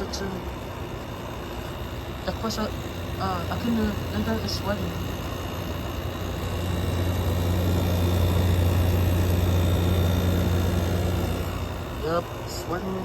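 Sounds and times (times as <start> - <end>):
air conditioner fan noise: 0.0 - 13.0
compressor hum: 0.0 - 13.0
faint high whine: 0.0 - 13.0.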